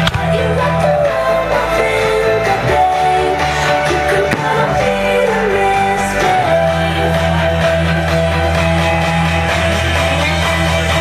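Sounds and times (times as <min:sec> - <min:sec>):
low bass notes: 0:00.0 - 0:11.0
rock music with guitar: 0:00.0 - 0:11.0.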